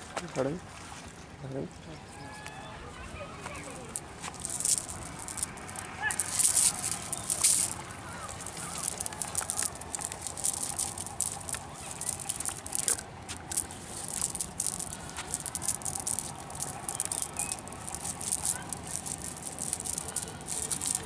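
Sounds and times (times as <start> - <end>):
cast net rustling and crackling: 3.5 - 21.0.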